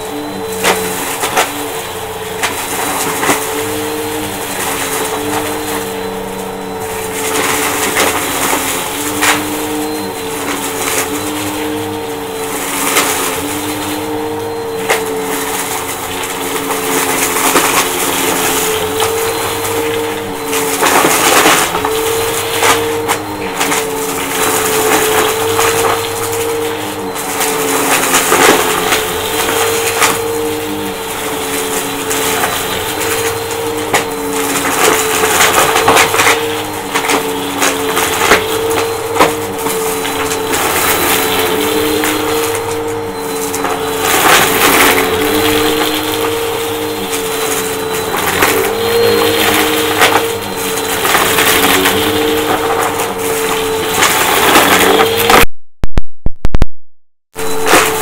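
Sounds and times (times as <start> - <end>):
vacuum cleaner motor hum: 0.0 - 55.5, 57.4 - 58.0
vacuum crunching up debris: 0.0 - 55.6, 57.3 - 58.0.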